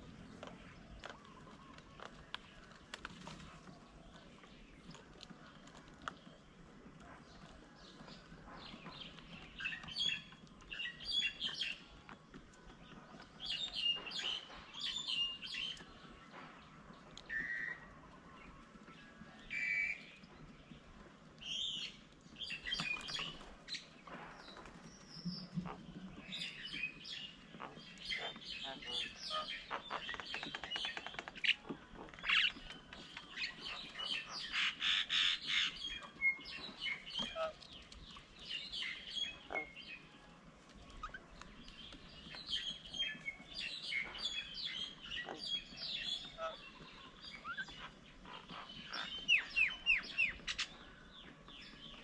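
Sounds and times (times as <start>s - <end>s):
birds chirping and calling: 0.0s - 52.0s.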